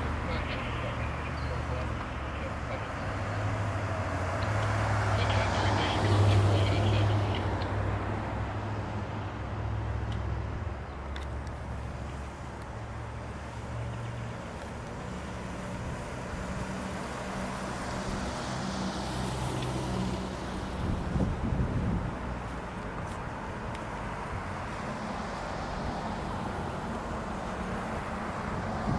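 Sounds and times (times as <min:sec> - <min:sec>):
vehicle passing: 0:00.0 - 0:28.9.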